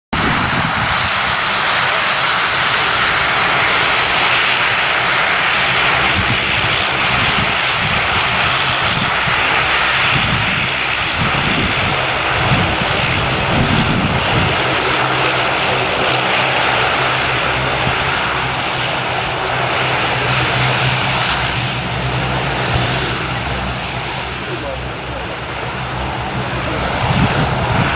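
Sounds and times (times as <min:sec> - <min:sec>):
low propeller hum: 0:00.1 - 0:27.9
turboprop engines roaring: 0:00.1 - 0:27.9.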